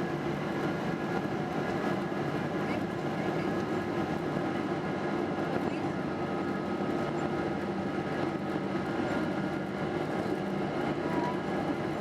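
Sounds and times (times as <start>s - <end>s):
airliner engines humming: 0.0s - 12.0s.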